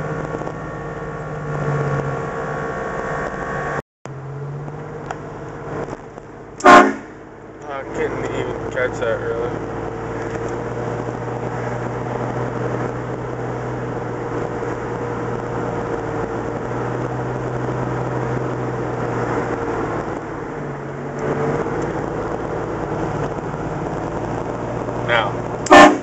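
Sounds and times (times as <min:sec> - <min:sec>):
road noise: 0:00.0 - 0:26.0
vehicle engine running: 0:00.0 - 0:26.0.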